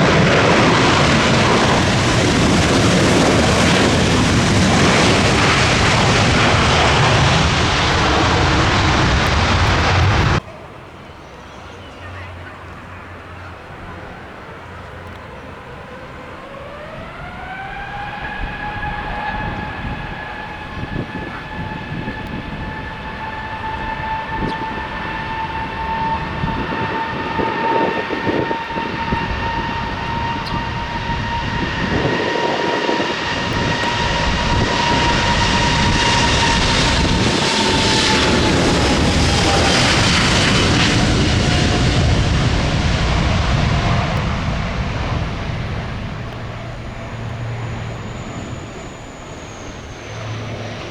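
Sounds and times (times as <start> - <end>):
jet engine roar: 0.0 - 11.0, 12.0 - 50.9
jet engine whine: 0.0 - 50.9.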